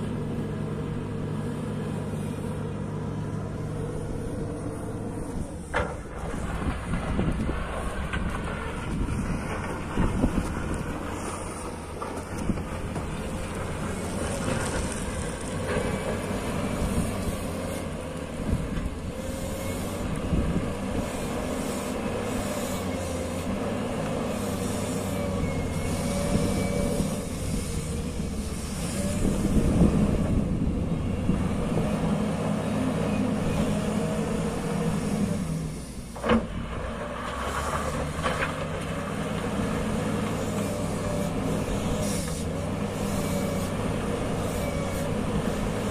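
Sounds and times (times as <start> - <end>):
loader diesel engine under load: 0.0 - 45.9.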